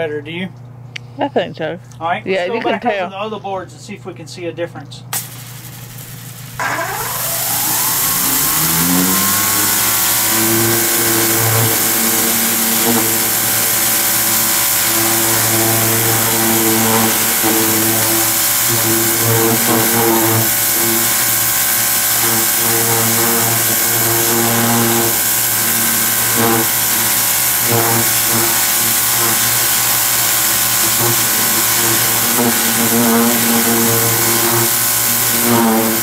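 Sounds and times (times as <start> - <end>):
electric pressure washer running: 5.1 - 36.0
water jet hissing on wooden boards: 5.1 - 36.0.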